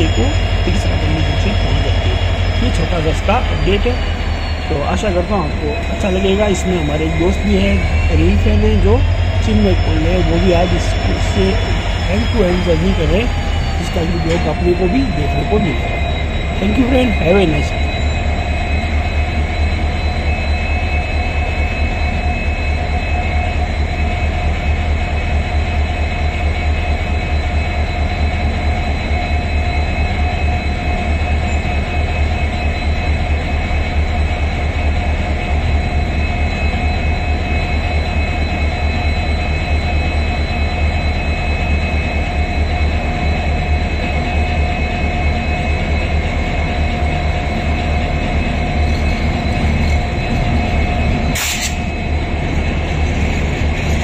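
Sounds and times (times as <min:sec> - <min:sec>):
high whining tones: 0:00.0 - 0:54.0
train wheels rumbling on rail: 0:00.0 - 0:54.0.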